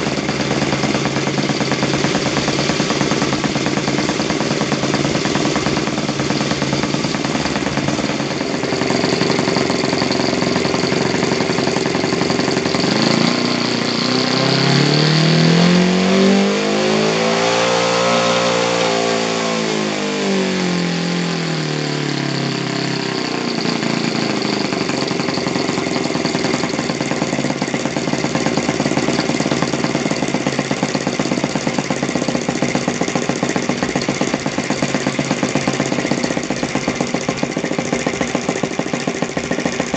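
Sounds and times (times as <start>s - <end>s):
model engine revving: 0.0s - 39.9s.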